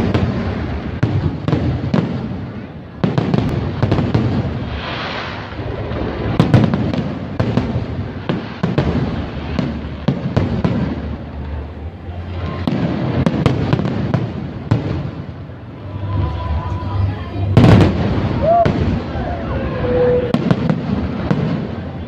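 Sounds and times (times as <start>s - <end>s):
continuous low rumble: 0.0s - 22.0s
fireworks bangs and cracks: 0.0s - 22.0s.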